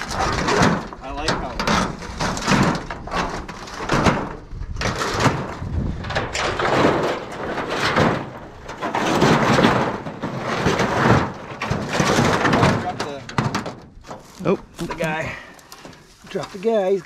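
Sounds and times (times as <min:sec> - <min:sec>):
boards rustling and scraping: 0:00.0 - 0:17.0.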